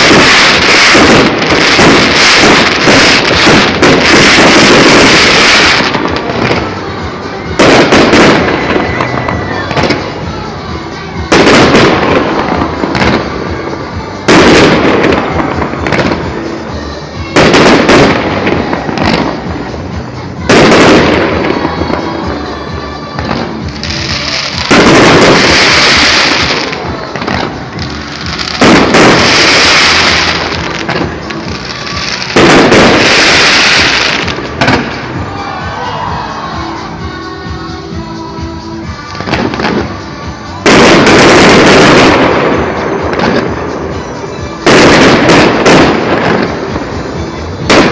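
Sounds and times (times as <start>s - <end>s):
fireworks crackling fizz: 0.0s - 37.0s, 38.8s - 47.9s
music: 0.0s - 47.9s.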